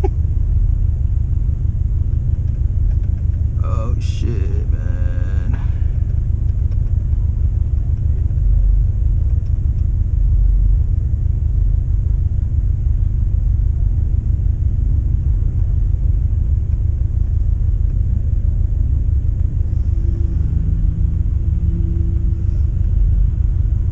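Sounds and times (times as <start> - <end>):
car road and engine noise: 0.0 - 23.9.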